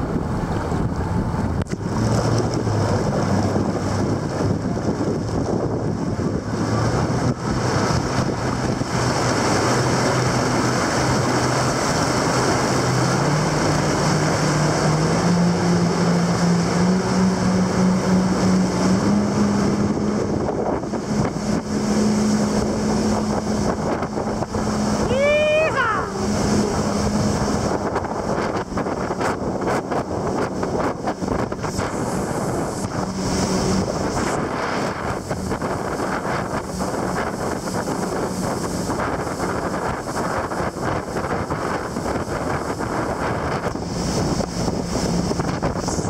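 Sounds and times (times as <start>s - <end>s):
jet ski engine running: 0.0s - 46.0s
water rushing past hull: 0.0s - 46.0s
wind buffeting microphone: 0.0s - 46.0s.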